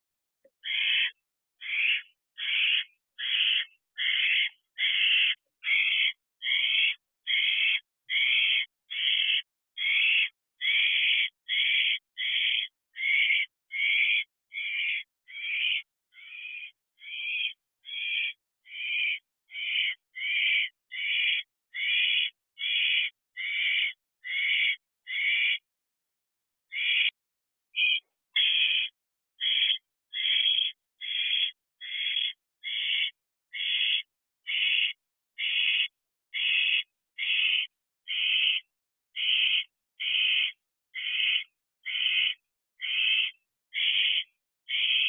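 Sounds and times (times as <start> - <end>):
young owl rasping hiss calls: 0.6 - 25.6, 26.7 - 27.1, 27.8 - 38.6, 39.2 - 45.0.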